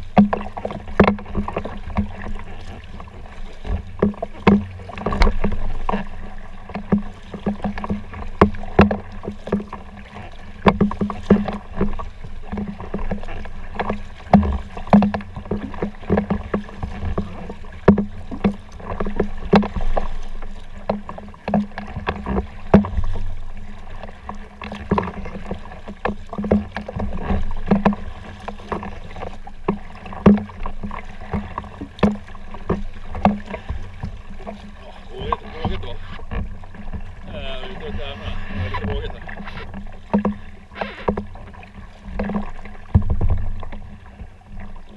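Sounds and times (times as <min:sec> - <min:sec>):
low rumble of water and wind: 0:00.0 - 0:44.9
paddle splashes and knocks: 0:00.0 - 0:44.9.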